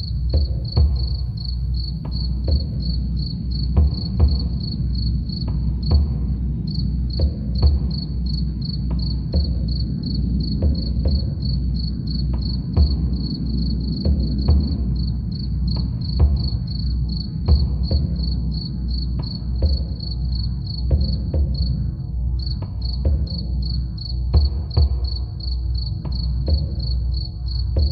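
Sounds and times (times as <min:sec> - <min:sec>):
crickets chirping: 0:00.0 - 0:27.9
slow deep drumbeat: 0:00.0 - 0:27.9.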